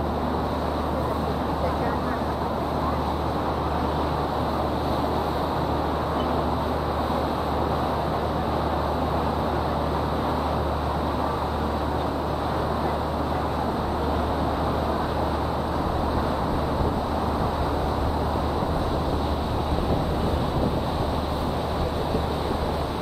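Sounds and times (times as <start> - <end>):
boat engine rumbling: 0.0 - 23.0.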